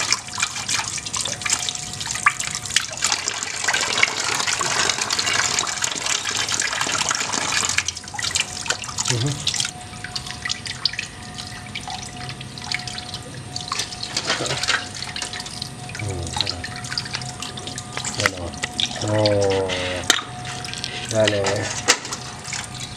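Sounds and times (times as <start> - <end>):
tap water running and splashing: 0.0 - 22.9.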